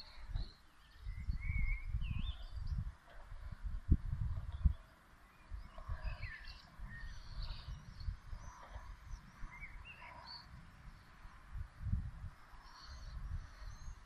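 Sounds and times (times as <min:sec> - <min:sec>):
small birds chirping: 0:00.0 - 0:03.1, 0:04.3 - 0:14.0.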